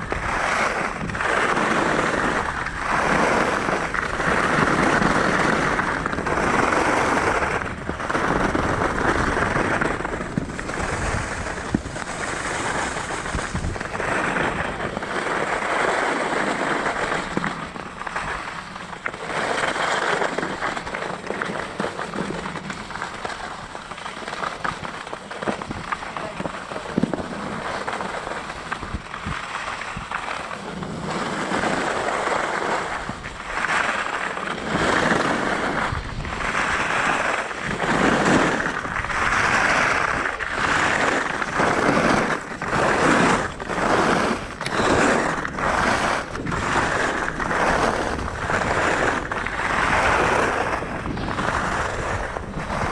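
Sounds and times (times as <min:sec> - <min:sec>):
hard snow crackling: 0:00.0 - 0:52.9
skis scraping over snow: 0:00.0 - 0:52.9.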